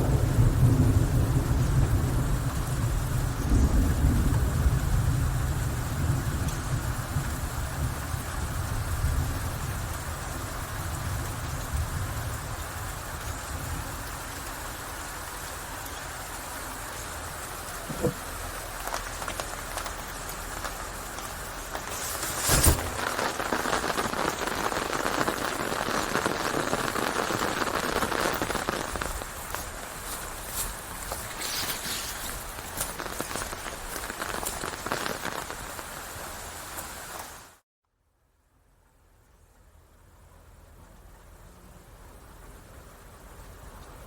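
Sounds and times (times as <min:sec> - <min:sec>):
steady rain falling: 0:00.0 - 0:37.6, 0:38.3 - 0:44.0.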